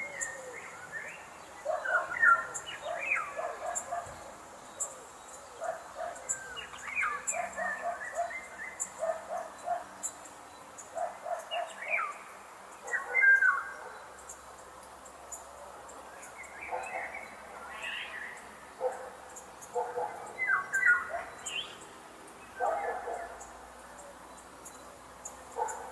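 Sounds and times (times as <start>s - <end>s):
birds chirping and calling: 0.0s - 25.9s
faint insect ticking: 0.0s - 25.9s.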